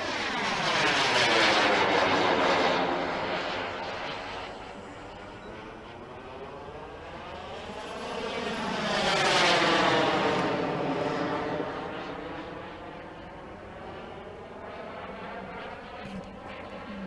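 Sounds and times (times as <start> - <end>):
model jet flying past: 0.0 - 17.0.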